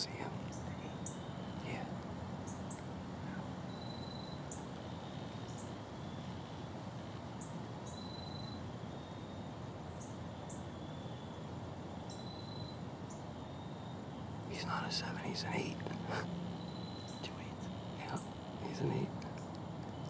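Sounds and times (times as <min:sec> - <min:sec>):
faint high chirps: 0:00.0 - 0:06.5, 0:07.4 - 0:11.4, 0:12.0 - 0:20.0
steady low hiss: 0:00.0 - 0:20.0.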